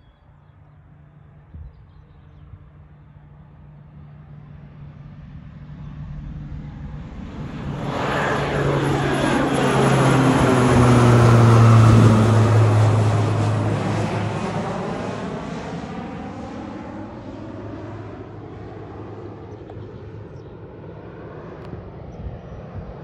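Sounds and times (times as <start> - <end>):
airplane flying low overhead: 0.0 - 23.0.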